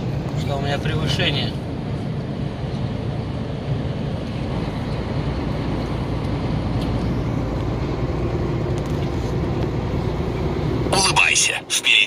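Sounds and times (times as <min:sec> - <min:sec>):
diesel engine: 0:00.0 - 0:12.0
road rumble: 0:00.0 - 0:12.0.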